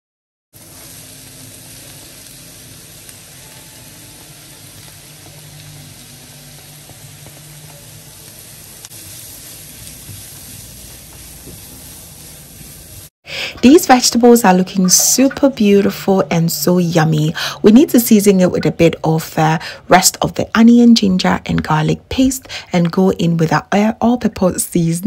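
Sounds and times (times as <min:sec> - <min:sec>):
vegetables sizzling in oil: 0:00.6 - 0:25.0.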